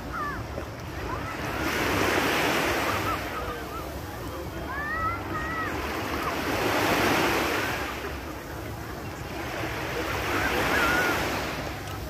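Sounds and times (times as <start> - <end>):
waves breaking on sandy beach: 0.0 - 12.0.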